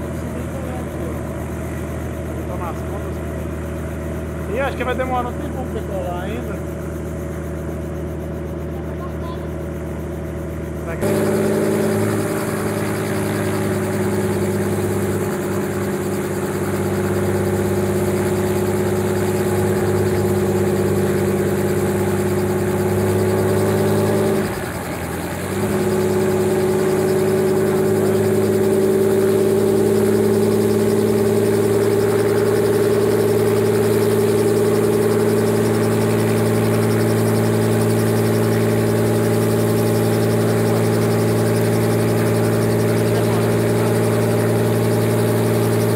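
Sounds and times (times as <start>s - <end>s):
helicopter engine idling: 0.0s - 45.9s.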